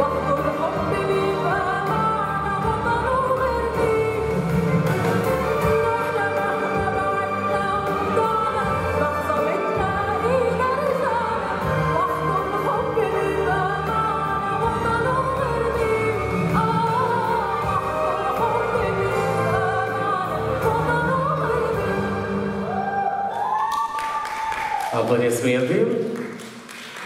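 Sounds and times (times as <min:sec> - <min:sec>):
orchestral music: 0:00.0 - 0:23.6.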